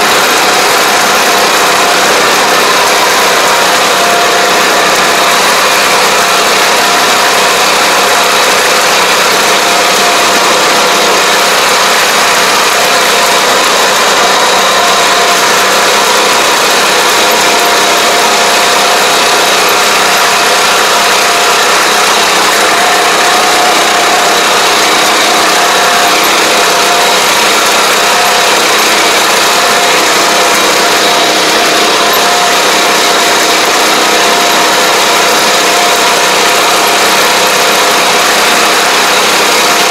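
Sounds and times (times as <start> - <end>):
crop sprayer engine running: 0.0 - 39.9.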